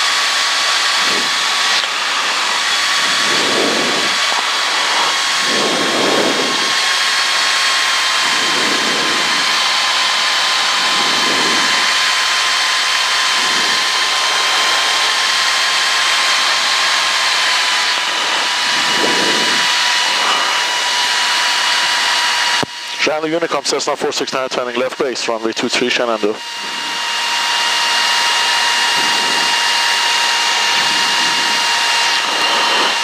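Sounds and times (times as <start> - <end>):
airplane engine and propeller droning: 0.0 - 33.0.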